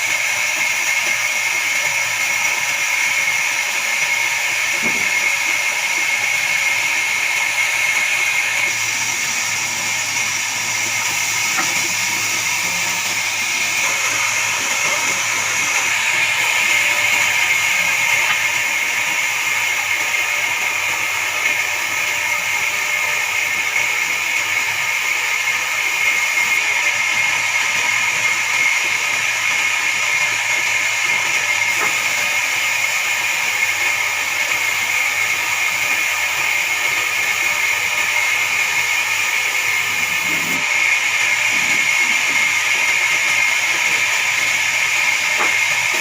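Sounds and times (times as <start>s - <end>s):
band saw cutting log: 0.0s - 46.0s.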